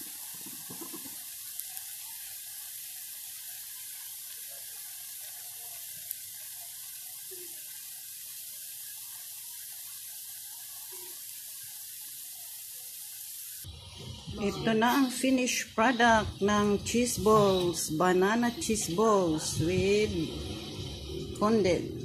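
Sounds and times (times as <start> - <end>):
deep-frying sizzle in oil: 0.0 - 22.0.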